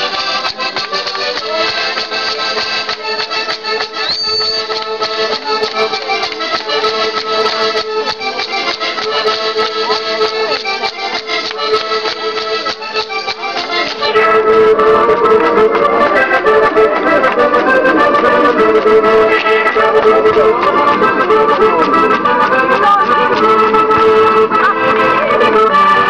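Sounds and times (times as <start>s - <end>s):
accordion folk dance music: 0.0s - 26.0s.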